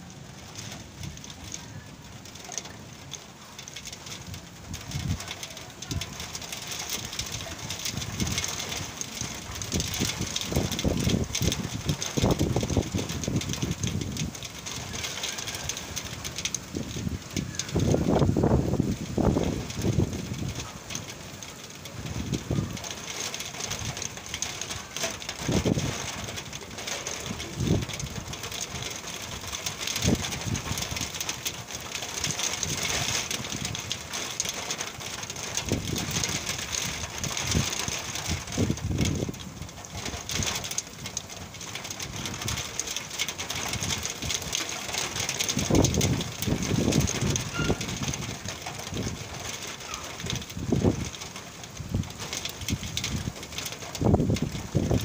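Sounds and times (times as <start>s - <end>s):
rain on concrete rooftop: 0.0s - 55.0s
wind buffeting microphone: 3.8s - 55.0s.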